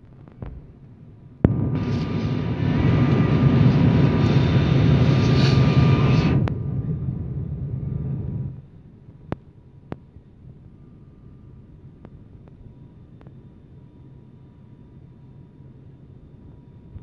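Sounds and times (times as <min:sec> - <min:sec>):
airliner engine noise with whine: 0:00.0 - 0:17.0.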